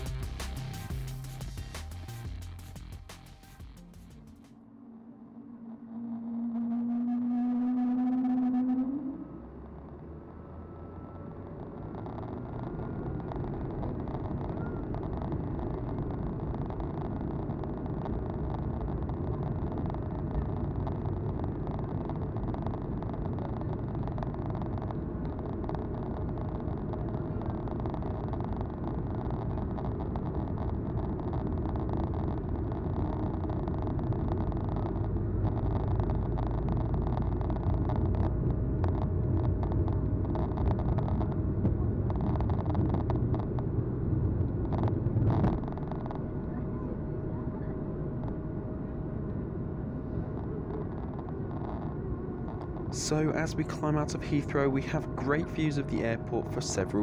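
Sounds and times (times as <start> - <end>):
aircraft cabin low rumble: 4.5 - 57.0.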